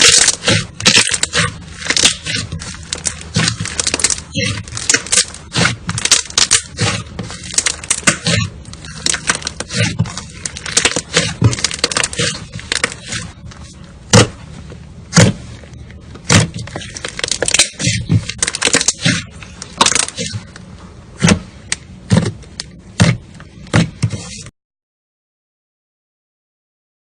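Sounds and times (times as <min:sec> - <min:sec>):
slime squished by hand: 0:00.0 - 0:14.5, 0:16.2 - 0:24.5.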